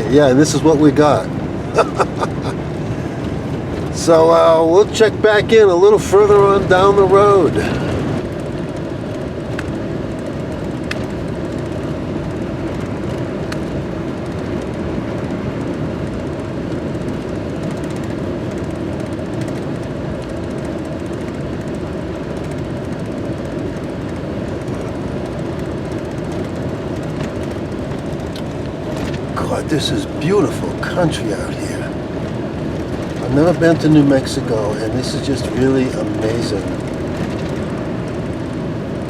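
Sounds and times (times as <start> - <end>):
van engine and tyre rumble: 0.0 - 39.0.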